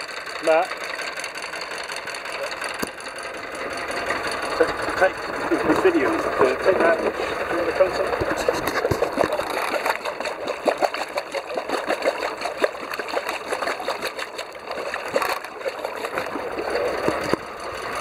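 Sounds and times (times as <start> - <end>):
water splashing and gurgling: 0.0 - 18.0.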